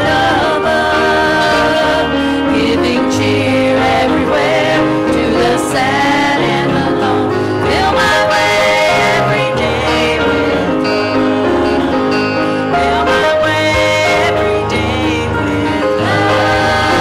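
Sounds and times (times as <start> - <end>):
acoustic guitar: 0.0 - 17.0
male and female voices singing hymn: 0.0 - 17.0.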